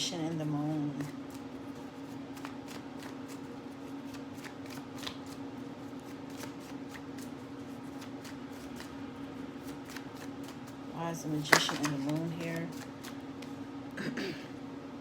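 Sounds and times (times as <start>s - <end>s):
steady low hum: 0.0s - 15.0s
cards being shuffled: 0.4s - 13.6s.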